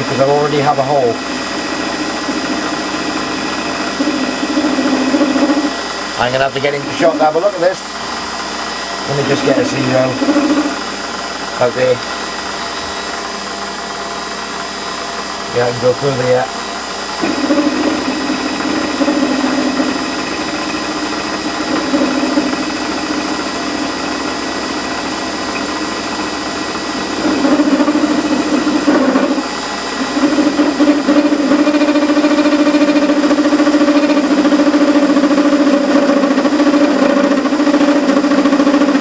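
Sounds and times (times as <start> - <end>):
end mill cutting metal: 0.0 - 39.0
faint motor whine: 0.0 - 39.0
metal lathe running: 0.0 - 39.0.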